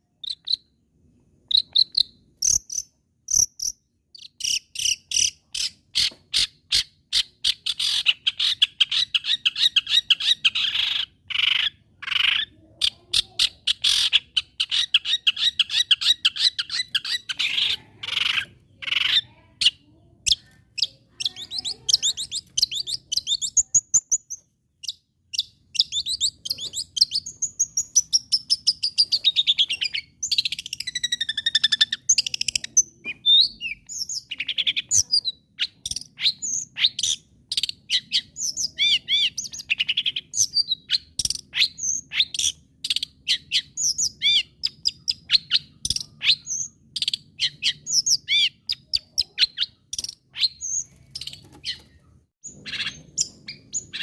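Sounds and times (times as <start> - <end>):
bird harsh chattering: 1.5 - 42.6, 47.4 - 54.0.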